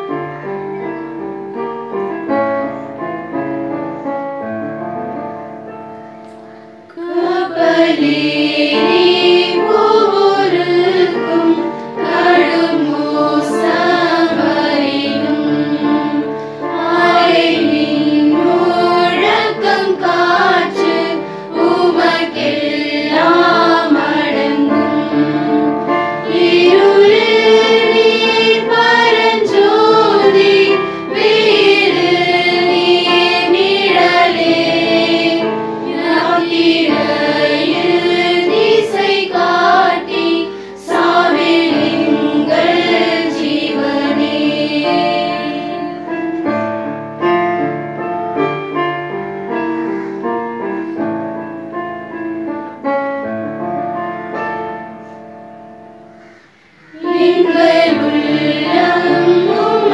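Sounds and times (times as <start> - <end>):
choir singing a hymn: 5.6 - 52.3, 54.2 - 59.9.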